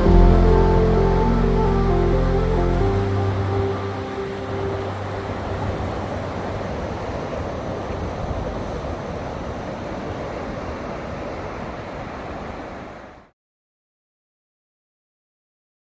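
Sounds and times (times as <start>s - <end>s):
wind on microphone: 0.0s - 13.0s
ocean surf washing ashore: 0.0s - 13.3s.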